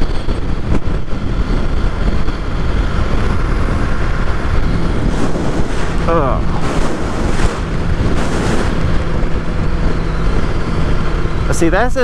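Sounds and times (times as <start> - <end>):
motorcycle engine running: 0.0 - 12.0
wind rushing on microphone: 0.0 - 12.0.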